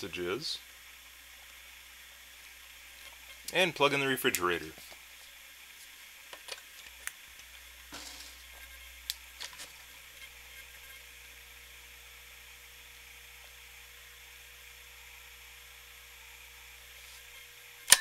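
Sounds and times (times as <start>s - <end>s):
fridge compressor low hum: 0.0s - 18.0s.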